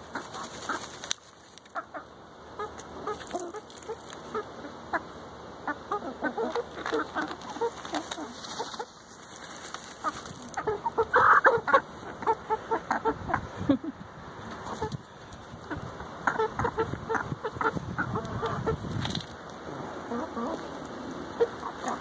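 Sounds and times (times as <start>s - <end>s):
scratching dry dirt: 0.0s - 2.0s, 2.6s - 4.5s, 6.2s - 13.1s, 14.5s - 22.0s
hens clucking: 0.0s - 22.0s.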